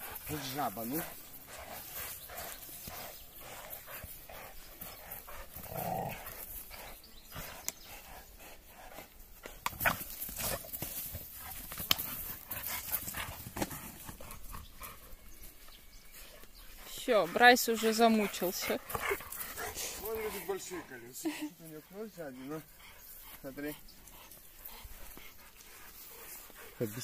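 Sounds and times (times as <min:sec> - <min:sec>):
dogs breathing and straining: 0:00.0 - 0:27.0.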